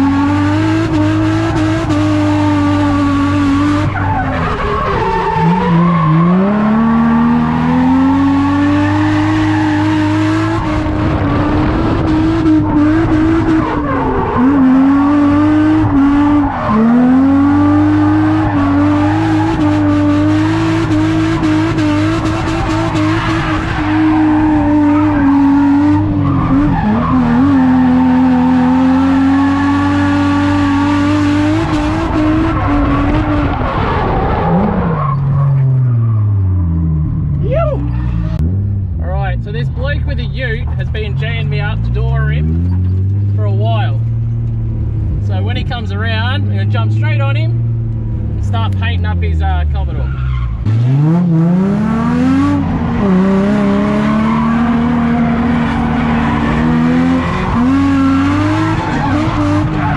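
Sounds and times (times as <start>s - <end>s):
car engine at high revs: 0.0s - 39.0s, 39.6s - 59.9s.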